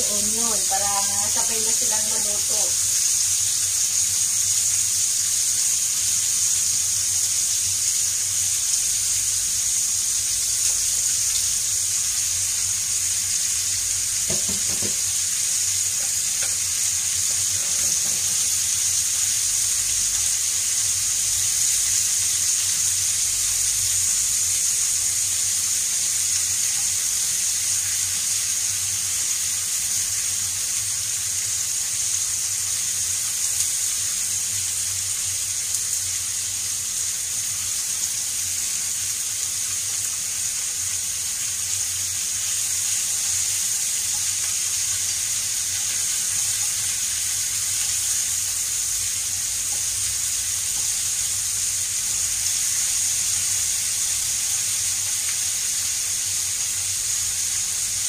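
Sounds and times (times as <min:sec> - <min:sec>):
meat and onion sizzling in oil: 0:00.0 - 0:58.0.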